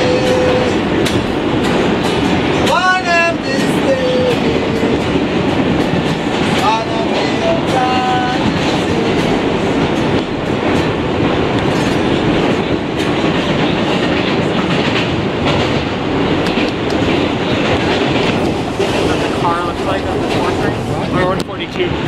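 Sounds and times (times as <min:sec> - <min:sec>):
subway wheels rumbling on rail: 0:00.0 - 0:22.0.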